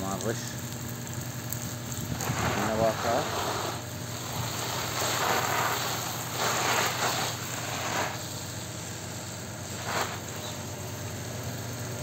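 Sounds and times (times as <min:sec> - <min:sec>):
hose spray hitting leaves: 0:00.0 - 0:12.0
steady low hum: 0:00.0 - 0:12.0.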